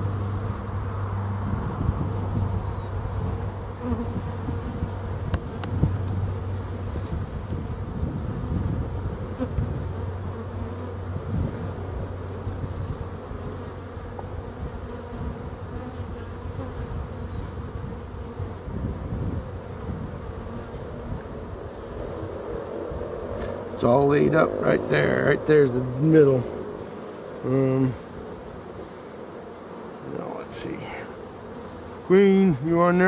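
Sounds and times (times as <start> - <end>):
bees buzzing: 0.0 - 33.0.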